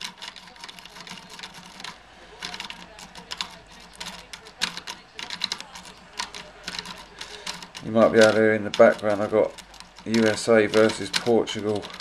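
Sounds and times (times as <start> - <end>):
lock pick scratching in lock: 0.0 - 12.0.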